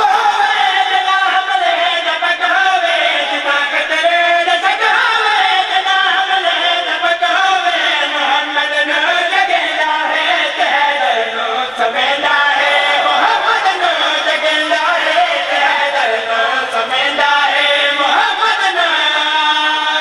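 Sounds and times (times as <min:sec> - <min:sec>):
men chanting through microphone: 0:00.0 - 0:20.0.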